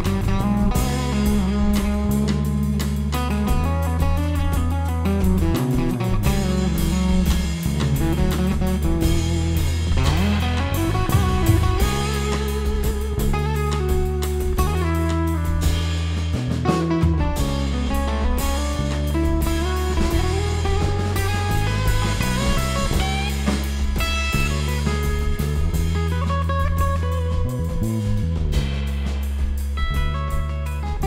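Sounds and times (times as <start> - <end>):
bass line: 0.0 - 31.0
drum kit: 0.0 - 31.0
electric guitar: 0.0 - 31.0.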